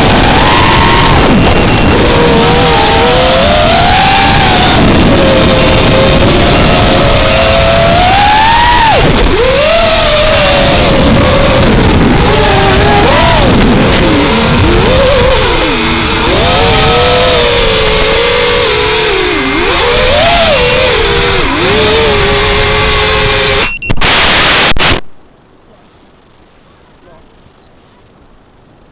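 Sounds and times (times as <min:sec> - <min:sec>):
drone motors whining: 0:00.0 - 0:25.0
rush of wind and propellers: 0:00.0 - 0:25.0.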